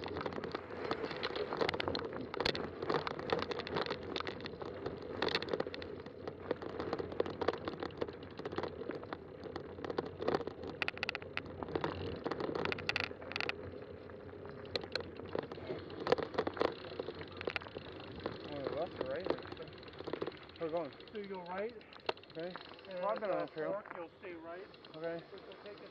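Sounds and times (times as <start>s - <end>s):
bike clicks and rattles: 0.0s - 25.9s
bike tyres rolling on dirt: 0.0s - 25.9s.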